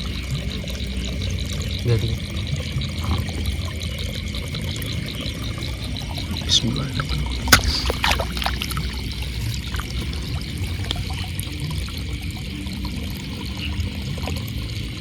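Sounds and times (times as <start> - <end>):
shallow water trickling and splashing: 0.0 - 15.0.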